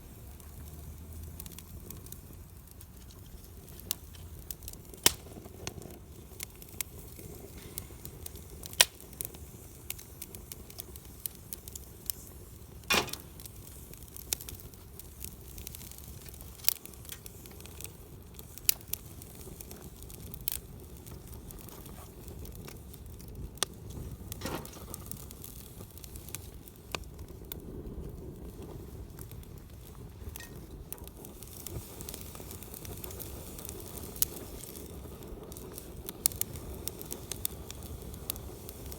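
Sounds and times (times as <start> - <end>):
fire crackling and popping: 0.0 - 38.9
low rush of flames: 0.0 - 38.9.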